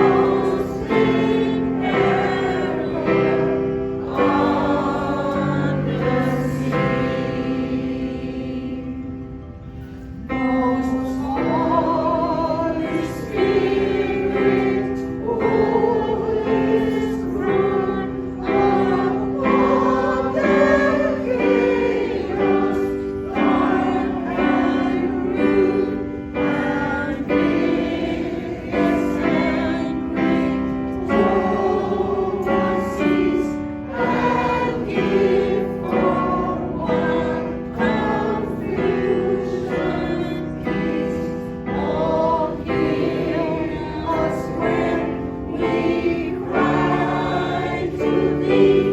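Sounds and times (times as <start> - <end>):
choir singing in parts: 0.0 - 48.9.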